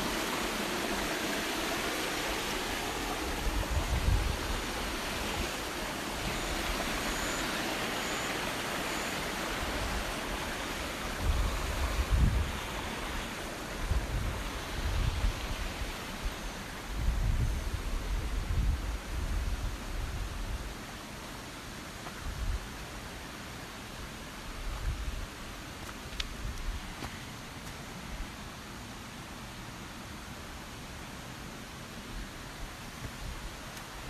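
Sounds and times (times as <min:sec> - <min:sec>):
rushing flowing water: 0:00.0 - 0:34.0.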